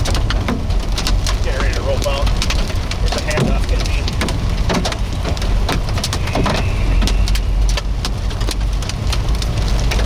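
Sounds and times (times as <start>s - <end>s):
car low rumble: 0.0s - 10.0s
hail knocking on car: 0.0s - 10.0s.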